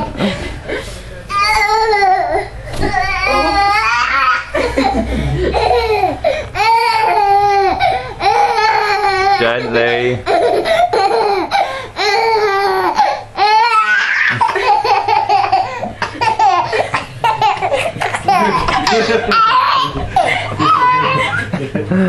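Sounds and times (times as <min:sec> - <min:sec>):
toddler laughing hysterically: 0:01.4 - 0:21.8.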